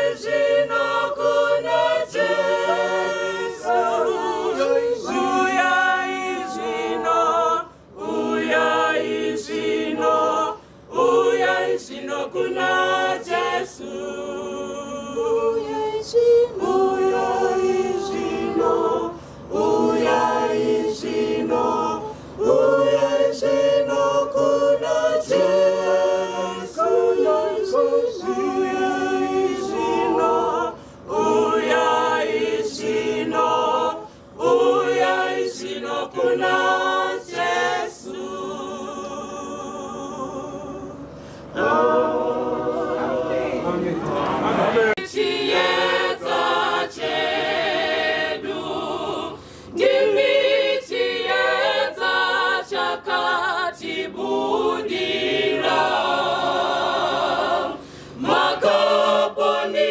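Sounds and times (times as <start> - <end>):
women's choir singing a hymn: 0.0 - 59.9.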